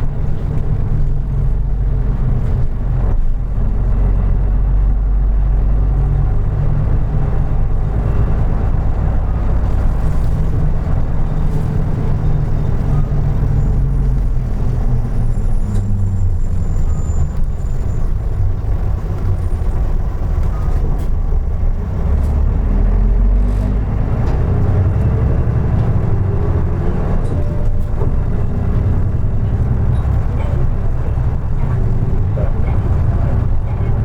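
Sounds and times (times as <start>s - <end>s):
bus engine rumble: 0.0s - 34.0s.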